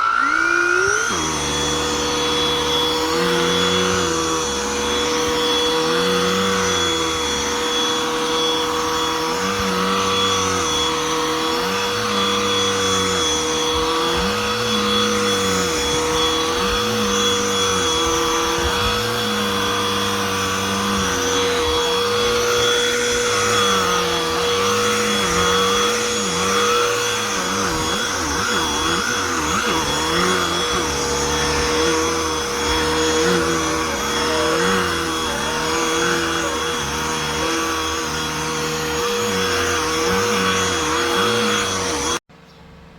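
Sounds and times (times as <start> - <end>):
handheld vacuum motor whine: 0.0 - 42.3.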